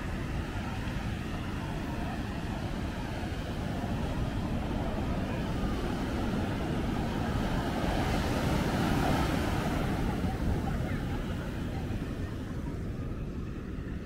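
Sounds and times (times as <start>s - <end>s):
ocean surf breaking: 0.0s - 13.0s
wind buffeting microphone: 0.0s - 14.0s.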